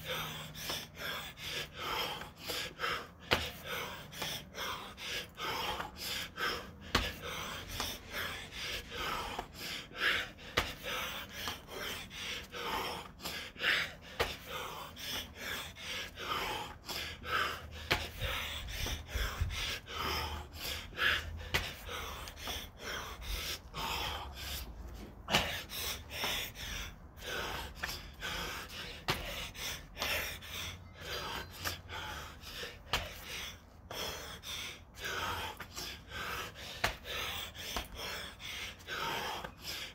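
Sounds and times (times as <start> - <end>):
man panting heavily: 0.0 - 39.9.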